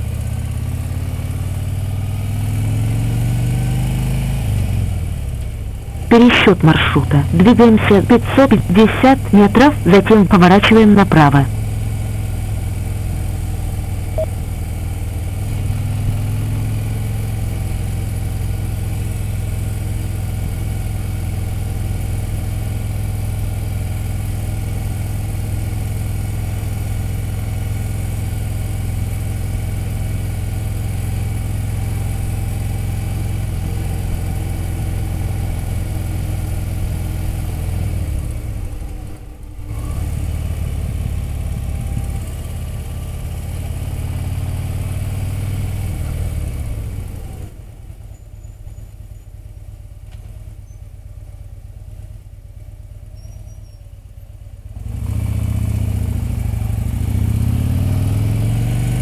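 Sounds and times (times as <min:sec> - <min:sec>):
motorcycle engine running: 0:00.0 - 0:06.1, 0:11.5 - 0:53.1.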